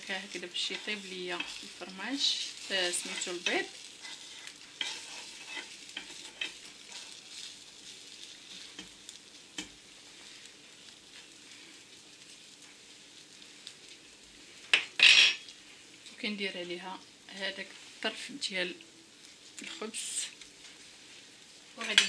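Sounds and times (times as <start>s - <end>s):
egg sizzling in a pan: 0.0s - 22.0s
light clicks and scrapes in pan: 0.1s - 16.2s, 19.2s - 22.0s.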